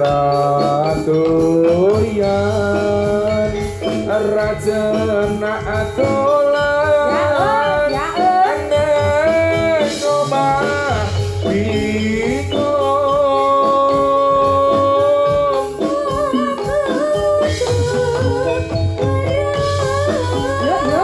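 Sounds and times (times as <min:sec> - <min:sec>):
gamelan ensemble playing: 0:00.0 - 0:21.0
steady drumming: 0:00.0 - 0:21.0.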